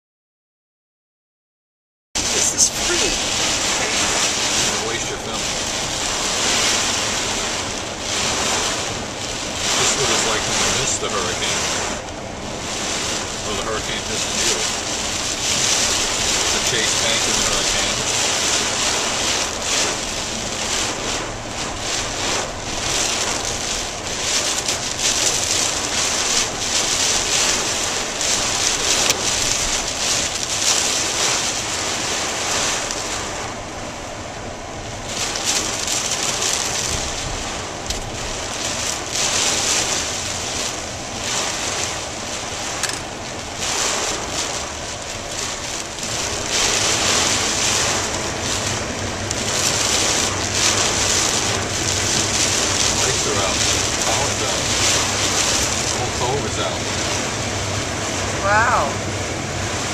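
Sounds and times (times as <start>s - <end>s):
heavy rain pelting car: 2.2s - 59.9s.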